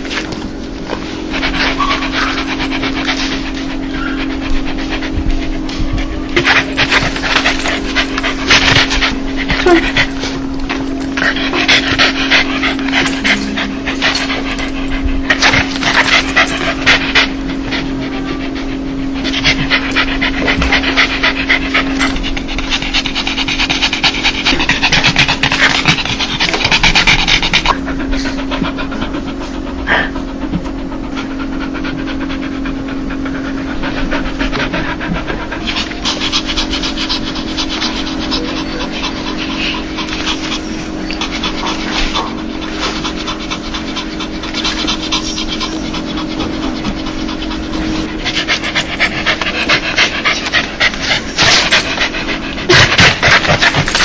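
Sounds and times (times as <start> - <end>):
dog panting rapidly: 0.0 - 54.0
low steady hum: 0.0 - 54.0.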